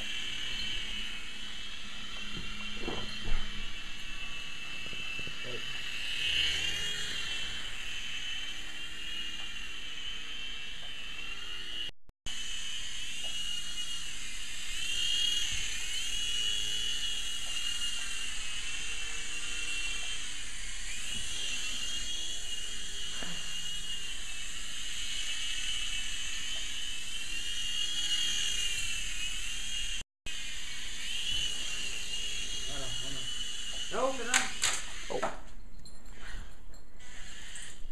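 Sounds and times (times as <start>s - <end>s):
toy helicopter motor whine: 0.0s - 37.9s.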